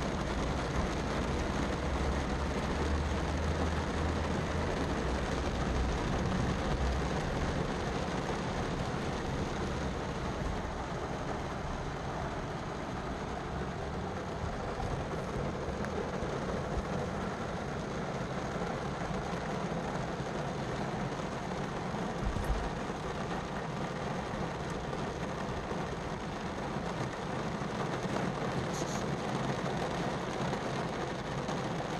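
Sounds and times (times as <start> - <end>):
rain on car roof: 0.0 - 31.9.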